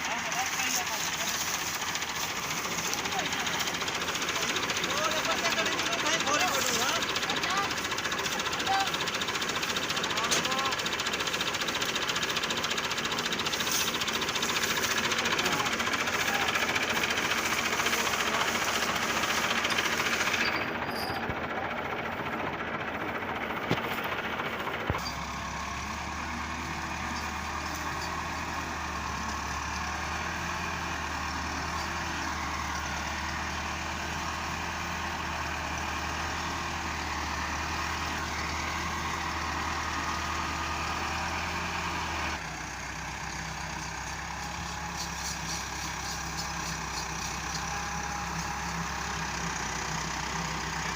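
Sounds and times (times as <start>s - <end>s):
tractor diesel engines: 0.0s - 50.9s.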